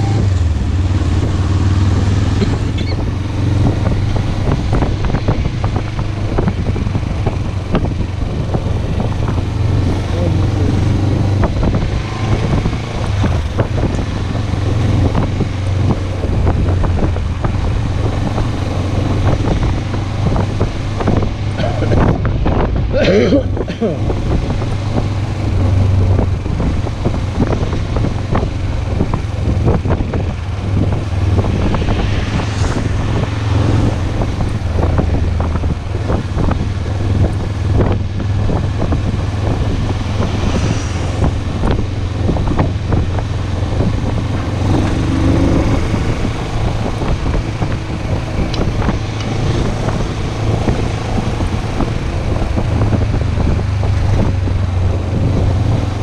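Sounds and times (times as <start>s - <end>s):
motorcycle engine drone: 0.0s - 56.0s
wind buffeting microphone: 0.0s - 56.0s.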